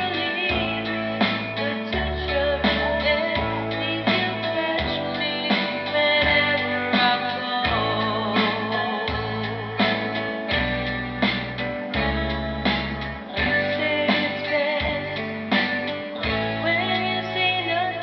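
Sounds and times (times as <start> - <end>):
person singing into a microphone: 0.0 - 10.4, 13.3 - 15.6, 16.3 - 18.0.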